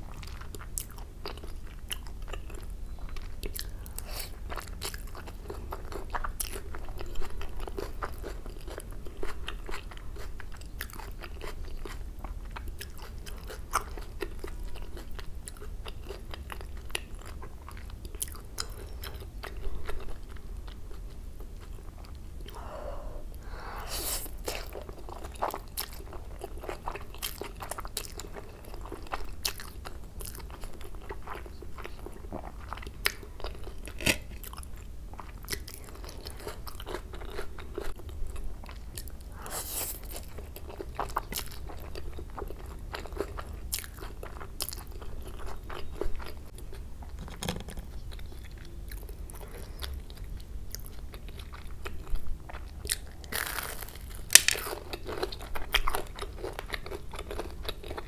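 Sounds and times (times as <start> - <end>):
chewing noodles with mouth clicks: 0.0 - 22.6, 24.2 - 47.2, 47.8 - 58.0.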